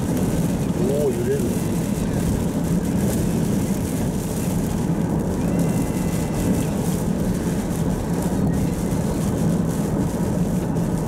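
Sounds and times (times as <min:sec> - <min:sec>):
rain: 0:00.0 - 0:11.0
tyres on wet road: 0:00.0 - 0:11.0.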